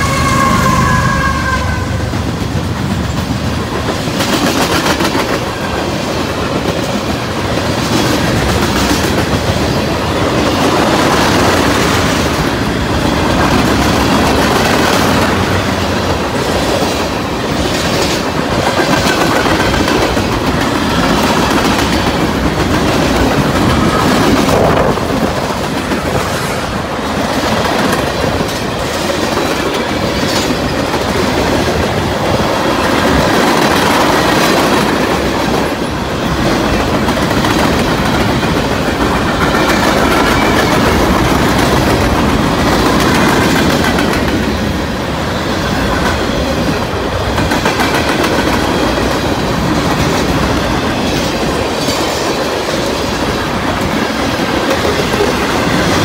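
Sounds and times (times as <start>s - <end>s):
freight train cars rolling past: 0.0s - 56.0s
steel wheels running over rails: 2.0s - 56.0s.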